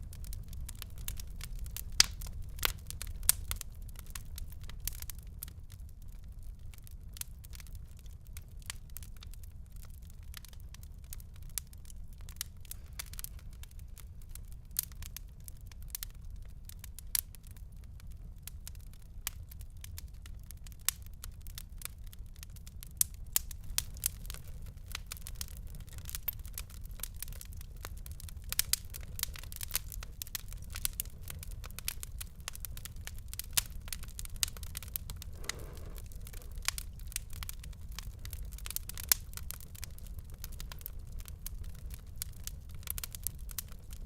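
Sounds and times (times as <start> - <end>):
low rumble of flames: 0.0 - 44.0
wood fire crackling and popping: 0.0 - 44.0.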